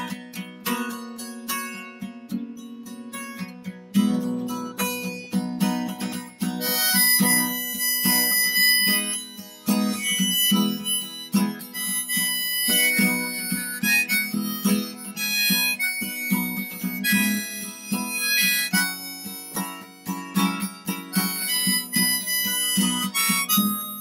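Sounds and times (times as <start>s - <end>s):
acoustic guitar strummed: 0.0s - 24.0s
harmonica melody: 2.6s - 24.0s.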